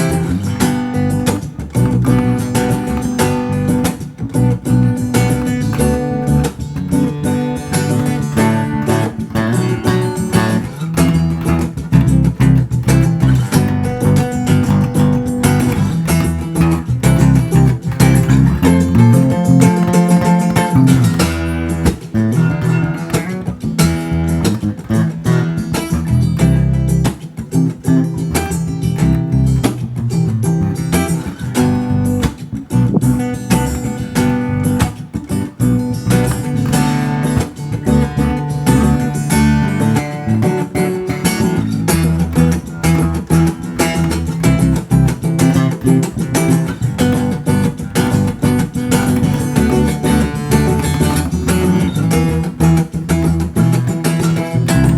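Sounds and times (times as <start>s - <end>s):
strummed and plucked guitar music: 0.0s - 54.9s.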